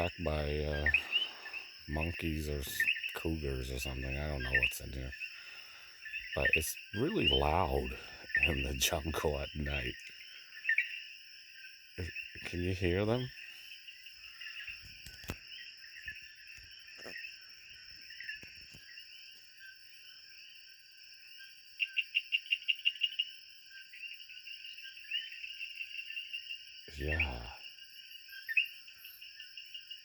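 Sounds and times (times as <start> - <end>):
high-pitched insect drone: 0.0 - 19.8, 21.8 - 29.9
insects chirping: 0.0 - 30.0.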